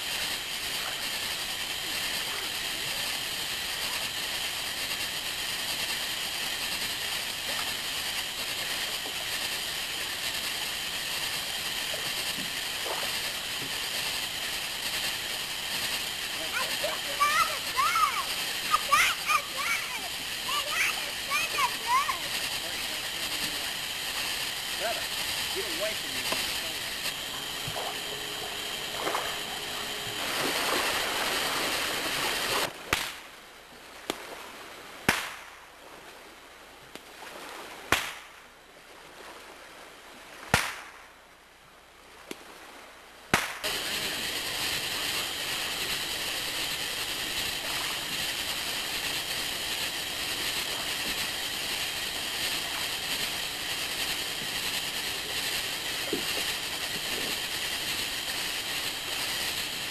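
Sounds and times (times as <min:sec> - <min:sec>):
fireworks banging with echo: 0:00.0 - 0:33.3, 0:35.1 - 0:35.6, 0:43.3 - 0:59.9
fountain firework hissing: 0:00.0 - 0:38.5, 0:40.4 - 0:41.1, 0:42.0 - 0:59.9.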